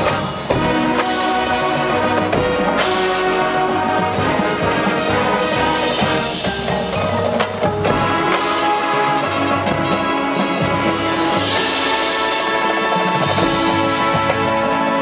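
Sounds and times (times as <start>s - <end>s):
mallet percussion ringing: 0.0s - 14.5s
marching band wind chords: 0.0s - 15.0s.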